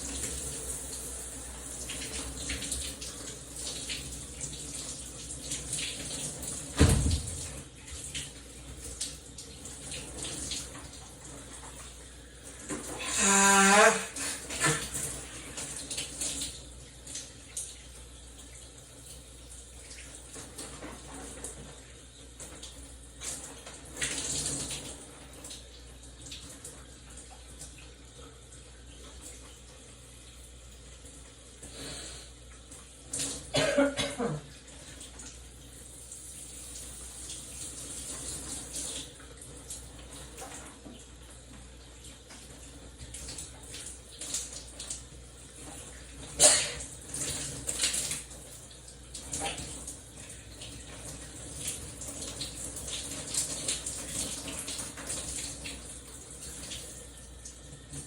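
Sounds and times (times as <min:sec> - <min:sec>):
shower water running: 0:00.0 - 0:58.0.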